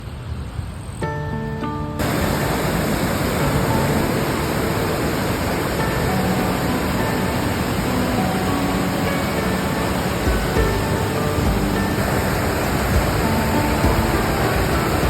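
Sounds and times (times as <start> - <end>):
faint background music: 1.0 - 15.0
rushing water: 2.0 - 15.0.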